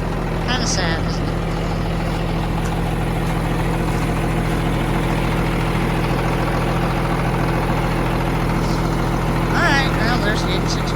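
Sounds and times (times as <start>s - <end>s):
tractor diesel engine idling: 0.0s - 10.9s.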